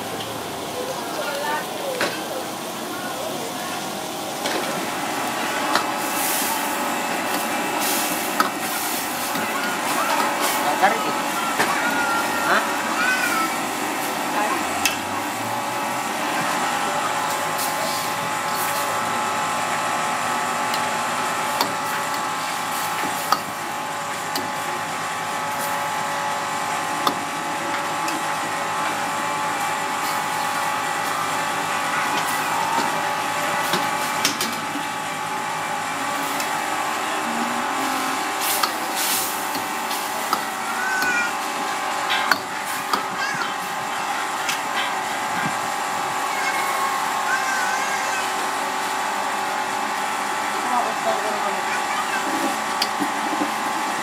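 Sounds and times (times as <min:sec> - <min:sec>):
kitchen hum: 0:00.0 - 0:54.0.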